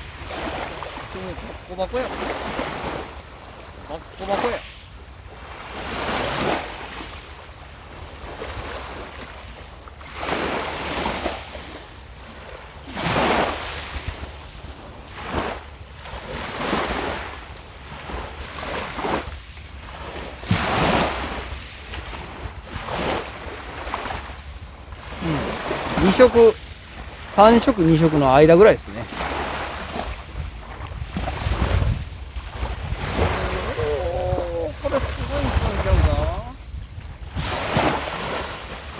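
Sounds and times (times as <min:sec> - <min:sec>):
small waves breaking on shore: 0:00.0 - 0:38.9
wind rumble on microphone: 0:00.0 - 0:38.9.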